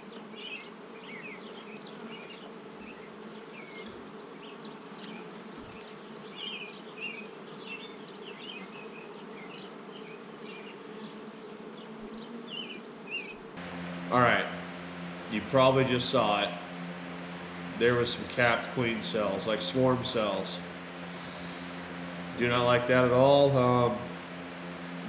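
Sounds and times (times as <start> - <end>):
honey bees humming: 0.0 - 25.0.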